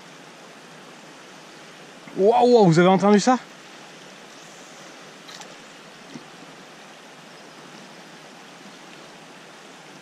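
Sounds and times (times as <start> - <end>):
river current rushing: 0.0 - 10.0.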